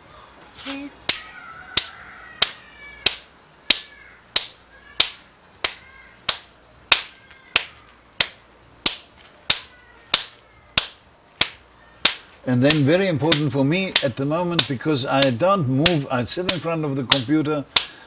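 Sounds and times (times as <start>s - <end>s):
hand slapping bare skin: 0.6s - 18.0s.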